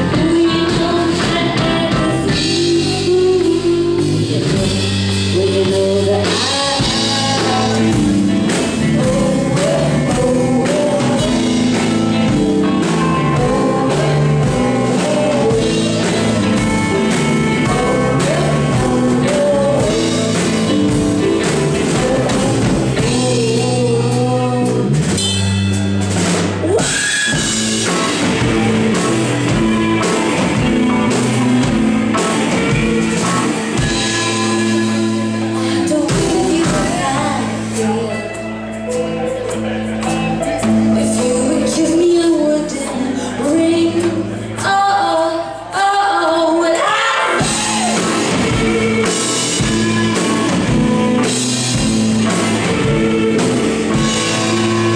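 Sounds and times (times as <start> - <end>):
drum kit: 0.0 - 45.9, 46.6 - 54.9
electric guitars: 0.0 - 54.9
keyboard: 0.0 - 54.9
vocals: 0.0 - 54.9.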